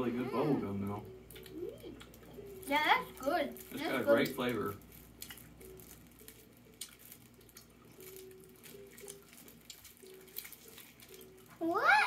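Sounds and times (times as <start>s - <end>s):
people chewing gum: 1.3s - 11.6s.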